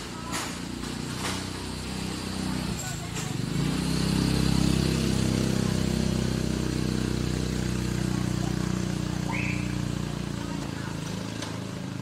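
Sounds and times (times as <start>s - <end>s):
motor engine running: 0.0s - 12.0s.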